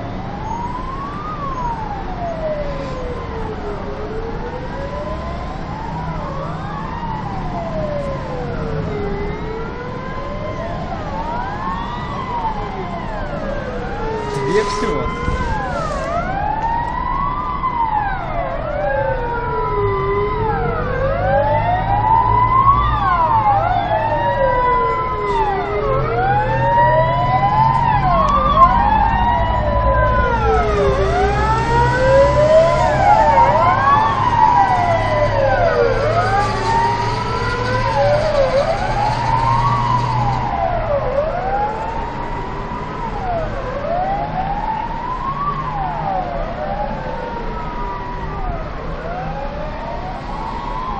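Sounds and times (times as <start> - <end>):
fire engine sirens wailing: 0.0 - 50.9
truck engines rumbling: 0.0 - 50.9.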